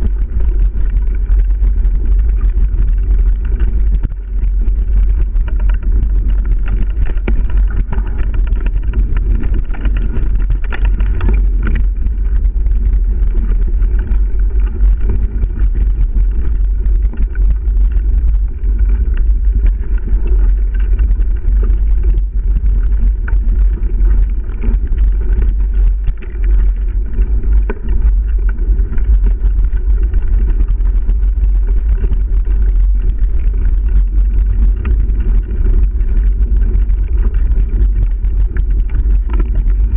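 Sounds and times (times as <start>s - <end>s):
bike clicks and rattles: 0.0s - 39.9s
bike tyre noise: 0.0s - 39.9s
wind buffeting microphone: 0.0s - 39.9s.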